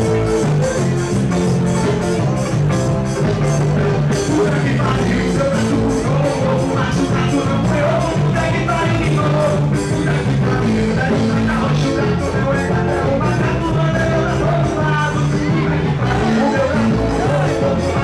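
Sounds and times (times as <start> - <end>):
upbeat music with fast beat: 0.0 - 18.0.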